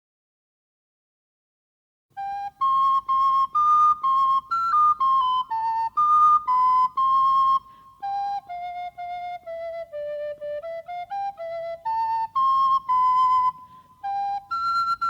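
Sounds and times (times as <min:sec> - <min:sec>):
flute melody: 0:02.2 - 0:15.0.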